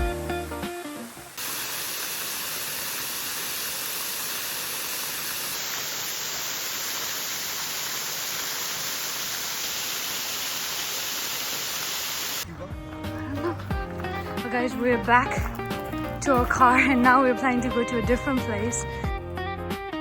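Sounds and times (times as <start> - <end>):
waterfall rushing: 0.0 - 17.7.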